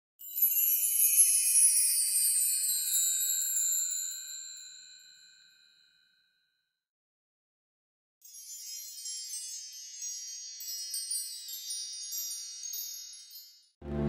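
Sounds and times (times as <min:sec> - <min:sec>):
shimmering high chime: 0:00.2 - 0:06.4, 0:08.2 - 0:14.0.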